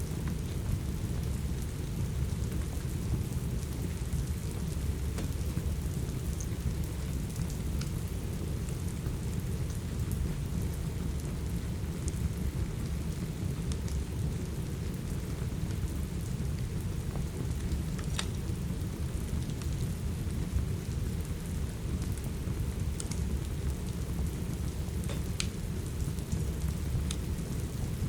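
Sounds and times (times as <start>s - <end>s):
steady rain: 0.0s - 28.0s
wood fire crackling and popping: 0.1s - 28.0s.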